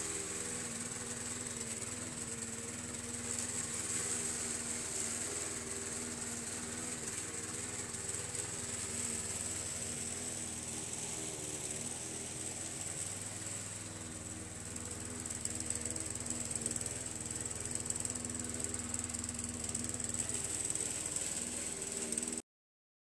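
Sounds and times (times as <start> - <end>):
lawn mower running: 0.0 - 22.4.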